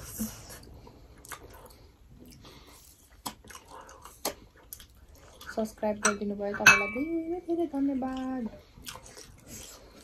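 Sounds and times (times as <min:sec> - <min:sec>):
wet chewing sounds: 0:00.0 - 0:06.3, 0:08.0 - 0:10.0.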